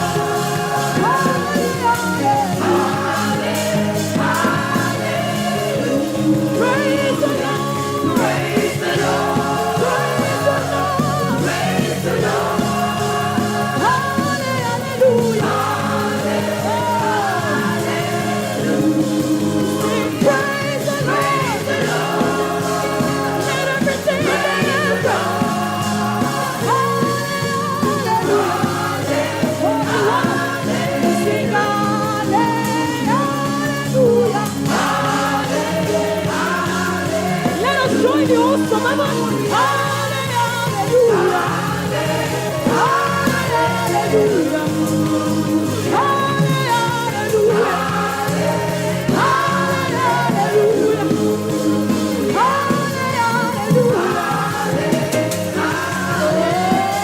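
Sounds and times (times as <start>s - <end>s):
band accompaniment: 0.0s - 57.0s
group singing gospel music: 0.0s - 57.0s.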